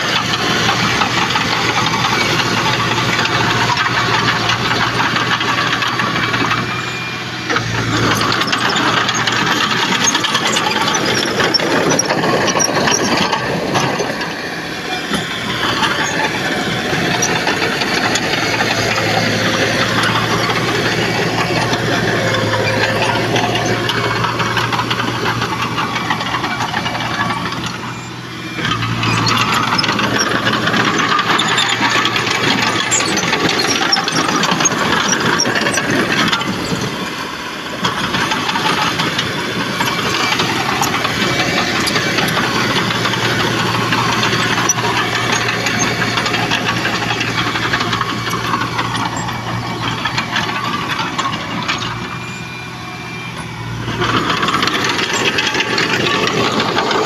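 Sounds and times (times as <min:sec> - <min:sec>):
diesel engine running hard: 0:00.0 - 0:57.0.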